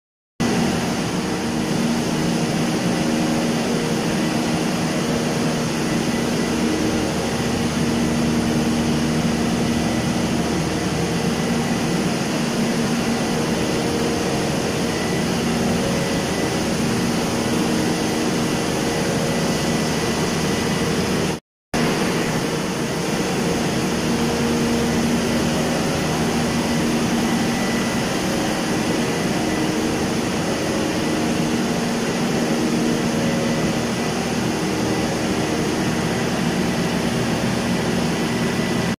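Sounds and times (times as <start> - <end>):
diesel generator running: 0.4 - 38.9
faint high whine: 0.4 - 38.9.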